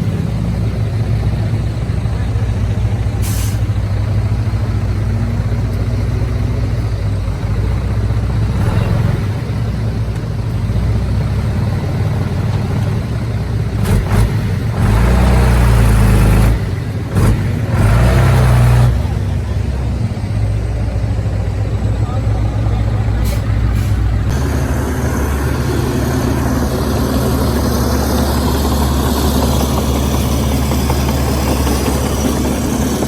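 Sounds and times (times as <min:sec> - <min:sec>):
diesel machinery engine running: 0:00.0 - 0:33.0.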